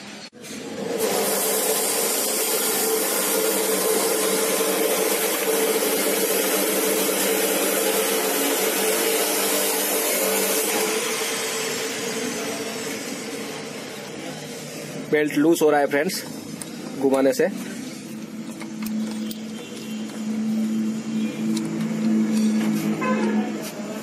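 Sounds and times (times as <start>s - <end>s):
machine hissing and humming: 0.0s - 24.0s.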